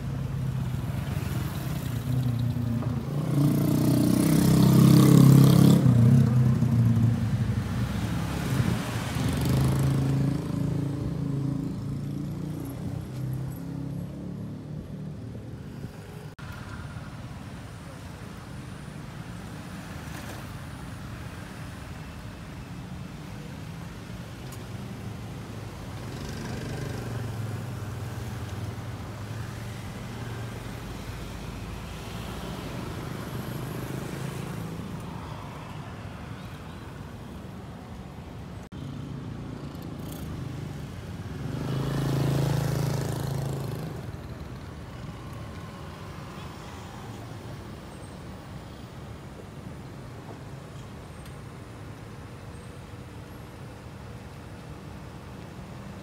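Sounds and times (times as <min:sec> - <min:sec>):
cars passing on street: 0:00.0 - 0:56.0.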